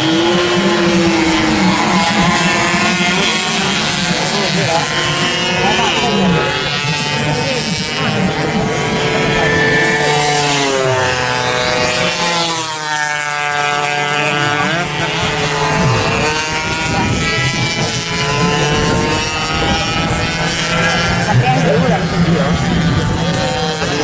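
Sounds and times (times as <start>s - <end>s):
two-stroke motorcycle engines revving: 0.0s - 24.0s.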